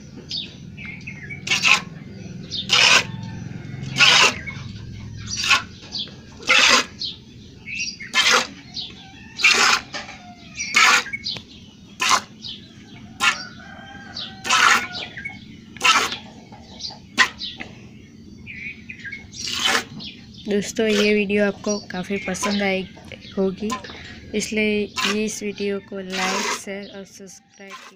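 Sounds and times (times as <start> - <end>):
birds chirping faintly: 0.0 - 27.9.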